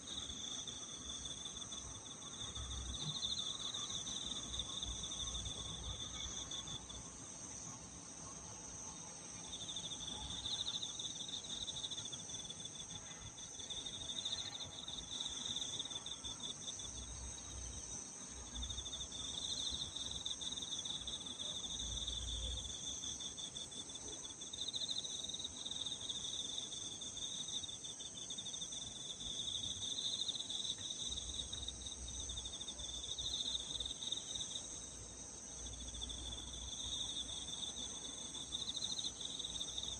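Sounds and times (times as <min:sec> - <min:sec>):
low pulsing insect chirp: 0:00.0 - 0:39.9.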